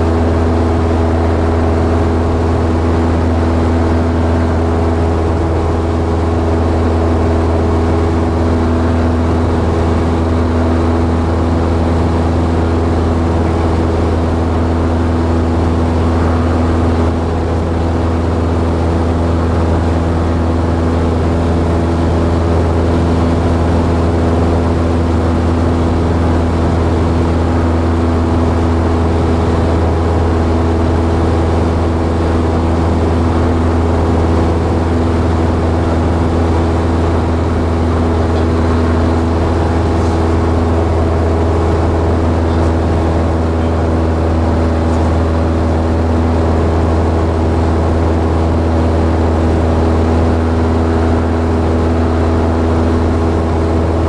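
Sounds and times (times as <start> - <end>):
propeller airplane engine droning: 0.0 - 54.0.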